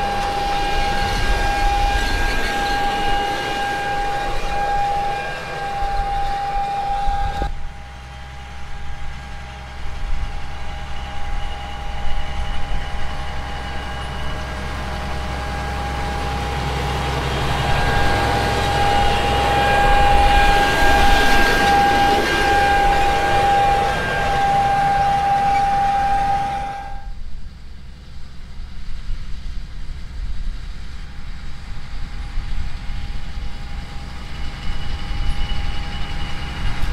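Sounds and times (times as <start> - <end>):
tractor diesel engine under load: 0.0 - 36.9.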